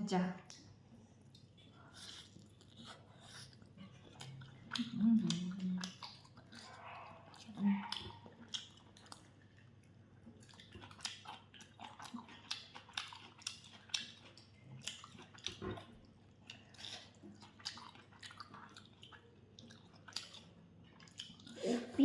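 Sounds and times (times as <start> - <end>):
person chewing food: 0.5 - 21.6.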